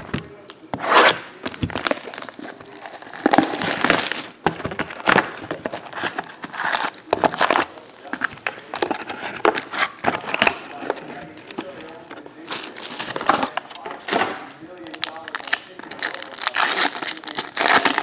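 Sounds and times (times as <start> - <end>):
wrappers crinkling and rustling: 1.4 - 4.4, 5.0 - 18.0.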